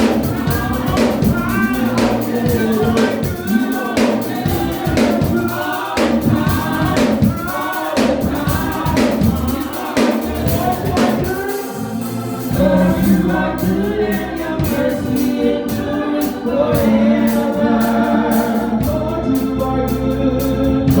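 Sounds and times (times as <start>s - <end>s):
band with steady drum beat: 0.0s - 21.0s
group of voices singing: 0.0s - 21.0s.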